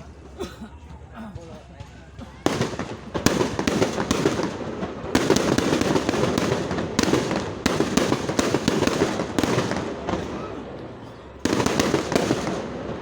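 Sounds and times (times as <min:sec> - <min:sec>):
fireworks bangs: 0:02.3 - 0:13.0
fireworks crackling: 0:02.3 - 0:13.0.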